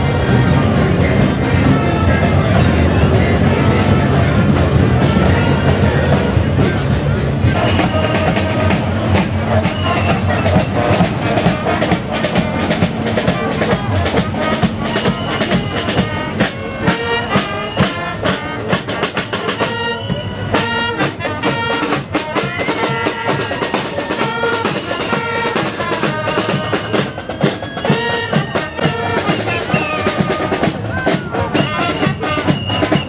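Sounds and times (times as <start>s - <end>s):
brass instruments playing a tune: 0.0s - 33.0s.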